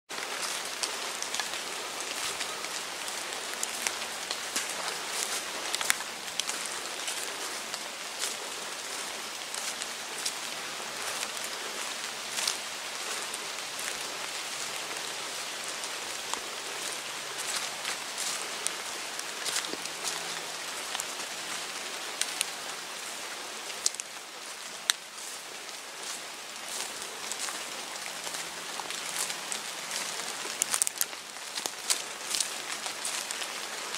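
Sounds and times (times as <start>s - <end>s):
rain on foliage: 0.1s - 33.9s.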